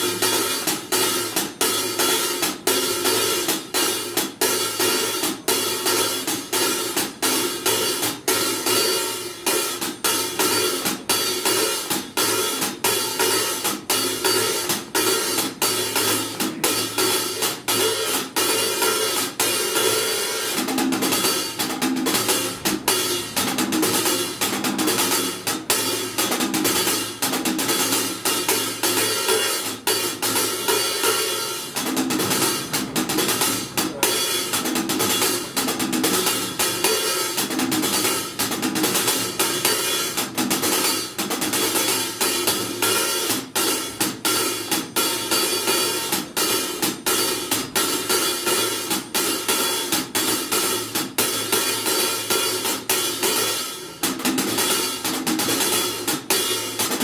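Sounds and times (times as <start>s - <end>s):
drumsticks on hi-hat: 0.0s - 57.0s.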